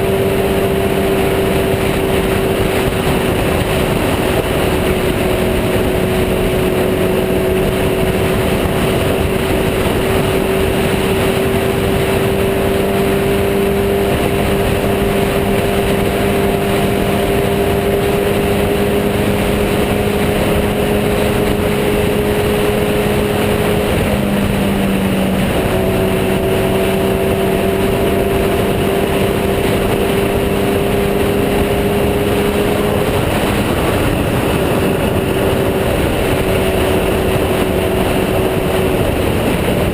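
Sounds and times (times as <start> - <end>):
motorcycle engine at speed: 0.0 - 39.9
wind noise: 0.0 - 39.9.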